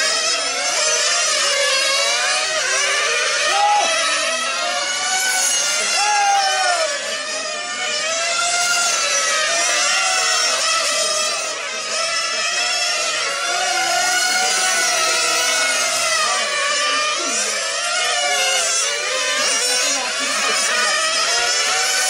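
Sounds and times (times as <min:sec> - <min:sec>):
rc car engines whining: 0:00.0 - 0:22.0.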